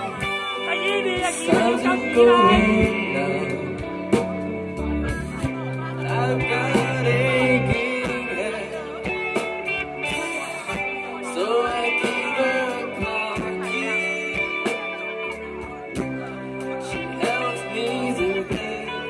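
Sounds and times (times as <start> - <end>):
live rock band playing: 0.0 - 19.0
person singing lead vocal: 0.0 - 19.0.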